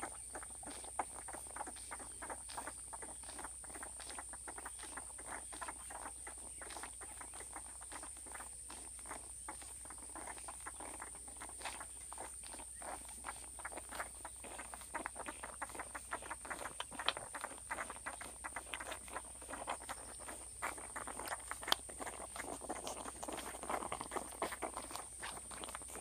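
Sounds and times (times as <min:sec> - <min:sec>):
puppies suckling: 0:00.0 - 0:26.0.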